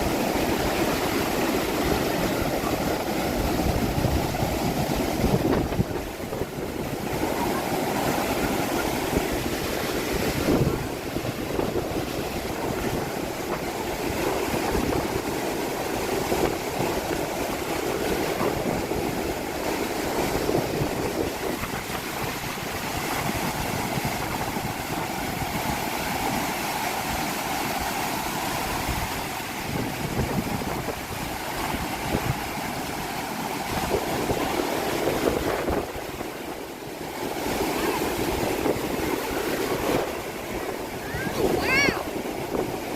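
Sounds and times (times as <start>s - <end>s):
sea surf washing onto beach: 0.0s - 42.9s
strong wind: 0.0s - 42.9s.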